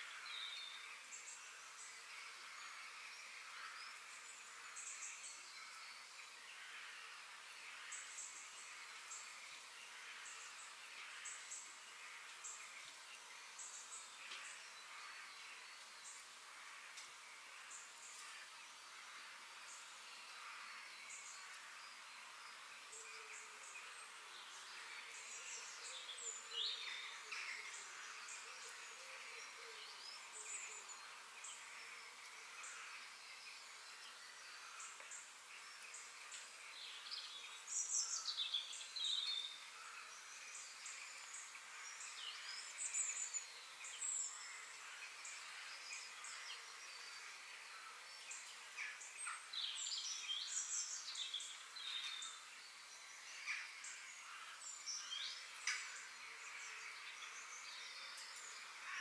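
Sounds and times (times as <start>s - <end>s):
forest birds singing: 0.0s - 59.0s
steady background hiss: 0.0s - 59.0s.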